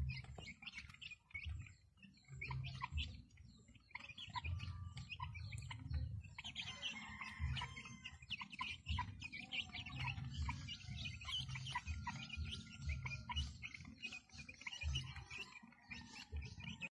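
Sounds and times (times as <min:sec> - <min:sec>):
chicks peeping and chirping: 0:00.0 - 0:16.9.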